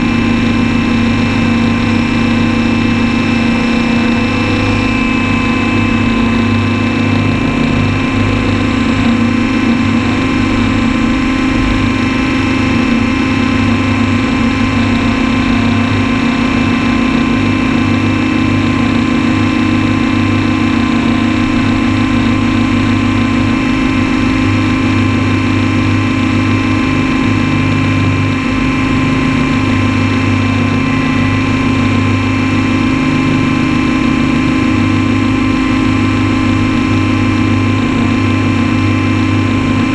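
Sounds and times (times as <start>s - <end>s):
drone motors and rotors: 0.0s - 39.9s.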